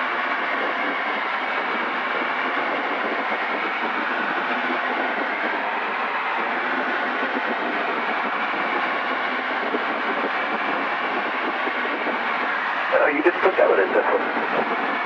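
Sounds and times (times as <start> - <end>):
light aircraft cabin drone: 0.0 - 15.0.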